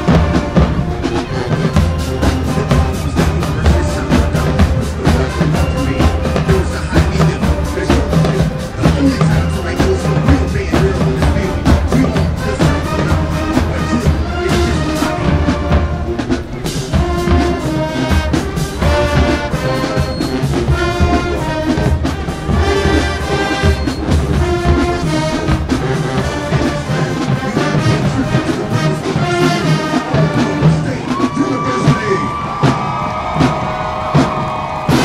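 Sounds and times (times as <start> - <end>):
brass section playing chords: 0.0 - 35.0
drumline beat: 0.0 - 35.0.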